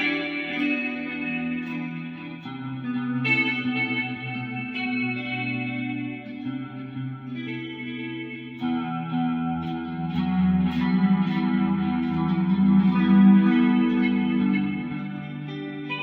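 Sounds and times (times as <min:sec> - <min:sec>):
clean electric guitar chords: 0:00.0 - 0:16.0.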